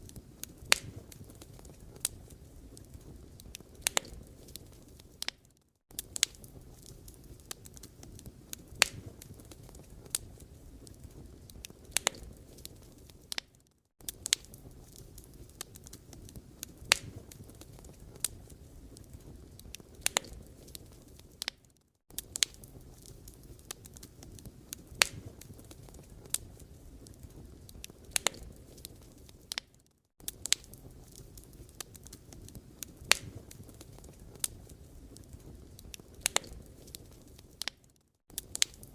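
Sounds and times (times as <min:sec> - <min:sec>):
firewood crackling and popping: 0:00.0 - 0:38.9
low rumble of flames: 0:00.0 - 0:38.9.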